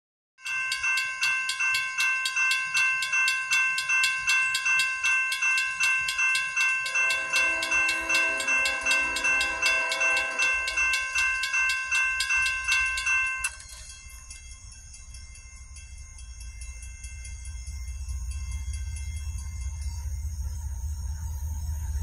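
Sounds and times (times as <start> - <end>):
crossing warning bell ringing: 0.4 - 22.0
low steady tone: 1.2 - 22.0.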